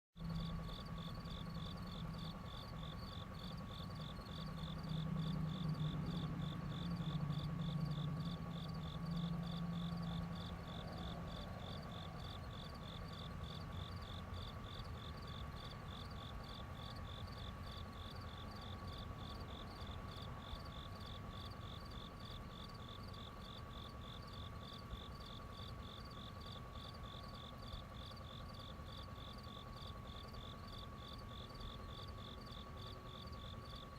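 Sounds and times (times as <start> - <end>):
insects chirping: 0.2 - 33.9
low whirring hum: 0.2 - 33.9.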